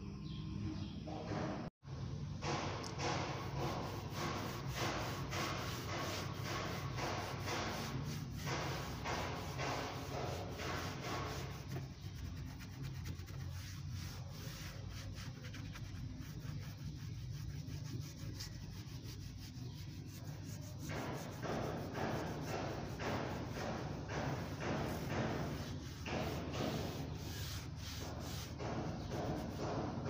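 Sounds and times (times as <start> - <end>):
pad scrubbing plastic: 3.4 - 29.8.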